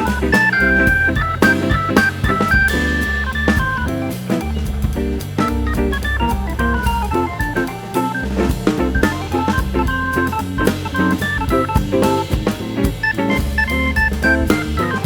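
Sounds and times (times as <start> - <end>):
bass: 0.0 - 15.0
drum kit beat: 0.0 - 15.0
organ: 0.0 - 15.0.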